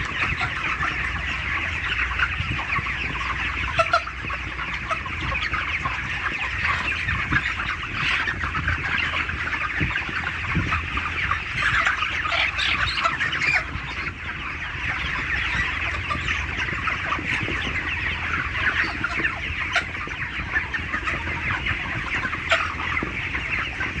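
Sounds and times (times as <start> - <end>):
chicks cheeping and clucking: 0.0 - 24.0.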